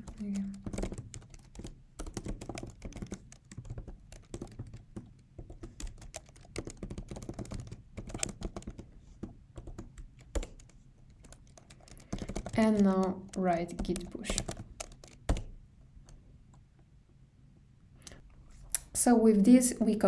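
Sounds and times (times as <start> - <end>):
keyboard typing: 0.0 - 16.2.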